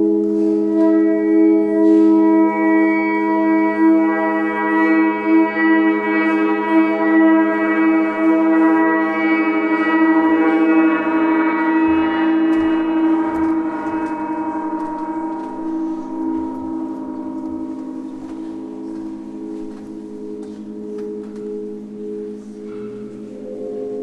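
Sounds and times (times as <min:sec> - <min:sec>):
gong ringing: 0:00.0 - 0:24.0.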